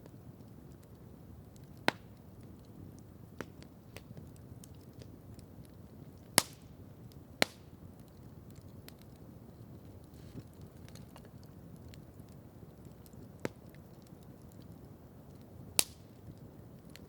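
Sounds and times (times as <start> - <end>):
wood campfire crackling: 0.0 - 17.0.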